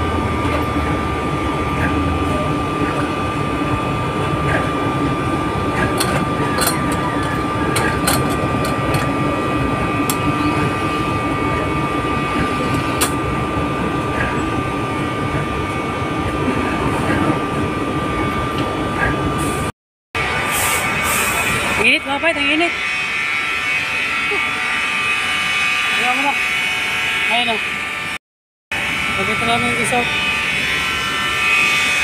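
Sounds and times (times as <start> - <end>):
machinery drone with whine: 0.0 - 32.0.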